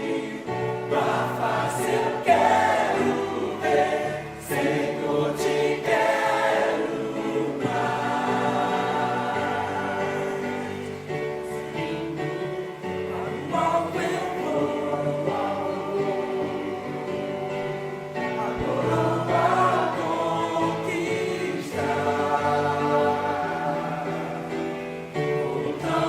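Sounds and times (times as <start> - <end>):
church choir singing a hymn: 0.0 - 26.0.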